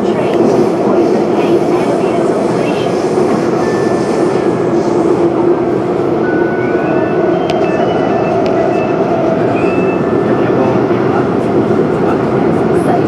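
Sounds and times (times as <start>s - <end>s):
train rumble from inside car: 0.0s - 13.0s.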